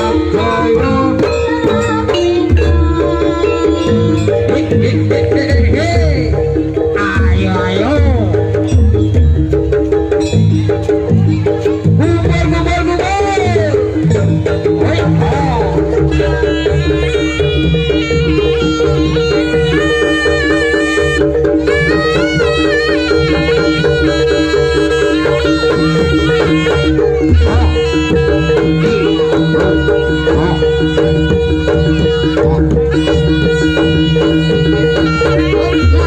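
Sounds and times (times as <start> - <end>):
continuous drumming: 0.0 - 36.0
ornamented reed melody: 0.0 - 36.0.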